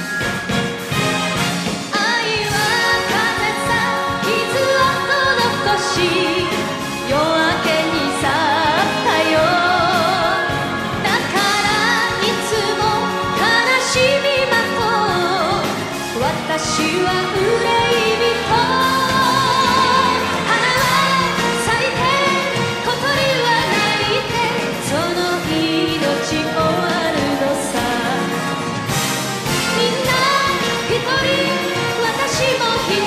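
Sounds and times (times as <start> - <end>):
band accompaniment: 0.0 - 33.0
woman singing with vibrato: 1.9 - 28.6, 29.5 - 33.0.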